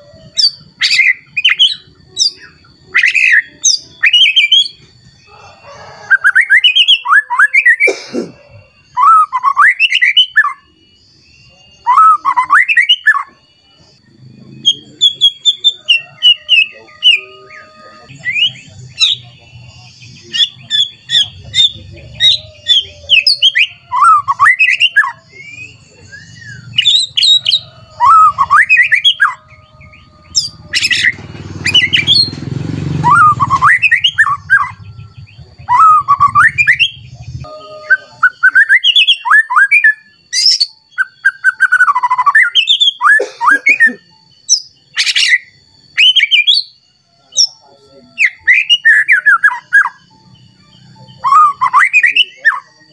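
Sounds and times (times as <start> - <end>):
bird singing whistles and trills: 0.0 - 52.9.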